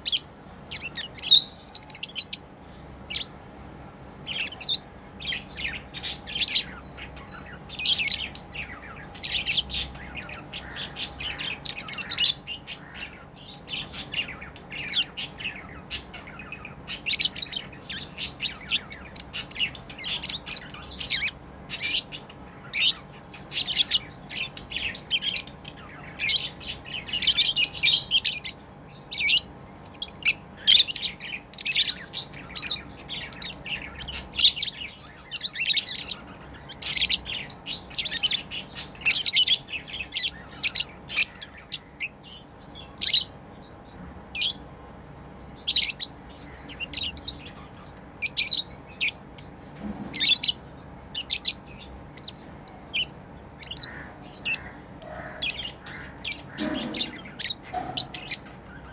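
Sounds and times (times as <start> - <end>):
lovebirds chirping: 0.0 - 58.9.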